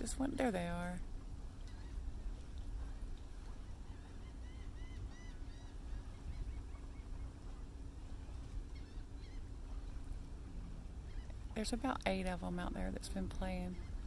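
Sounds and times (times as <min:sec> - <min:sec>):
low steady rumble: 0:00.0 - 0:14.0
bird calling: 0:01.6 - 0:11.8, 0:12.6 - 0:14.0.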